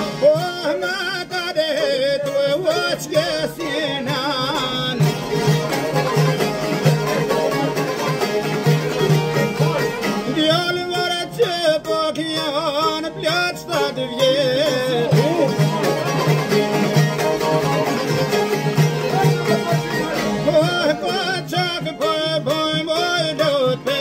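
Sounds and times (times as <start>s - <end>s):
man singing: 0.0s - 5.9s, 9.6s - 18.2s, 19.0s - 24.0s
lute strummed: 0.0s - 24.0s.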